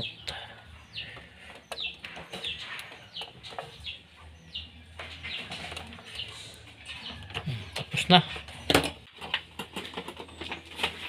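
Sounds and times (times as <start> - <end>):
bird chirping: 0.0 - 9.1.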